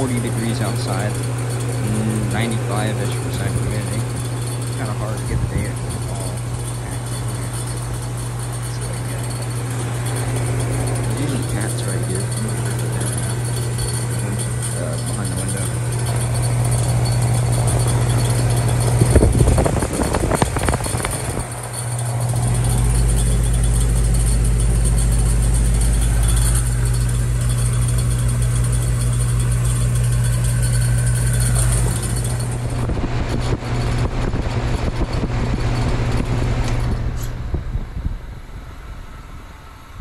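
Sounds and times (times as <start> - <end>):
fan rushing: 0.0 - 40.0
heat pump compressor hum: 0.0 - 40.0.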